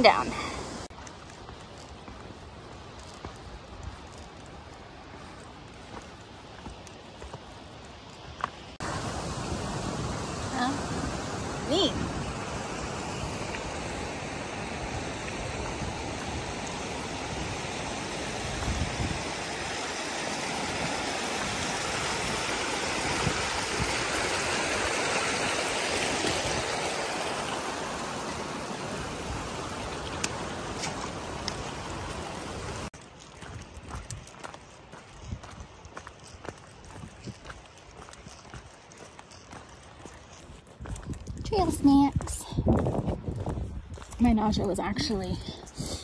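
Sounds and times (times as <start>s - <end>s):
stream running over rocks: 0.0s - 46.0s.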